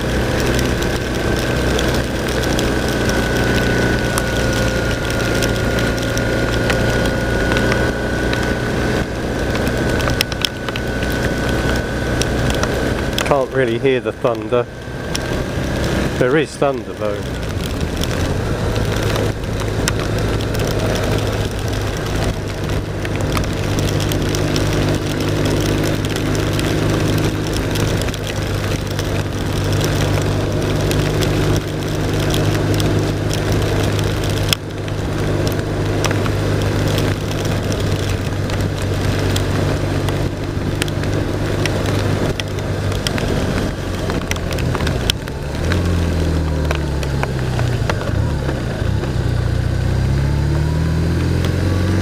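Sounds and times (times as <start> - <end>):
motorcycle engine running: 0.0 - 52.0
rain and tyre spray: 0.0 - 52.0
wind: 0.0 - 52.0.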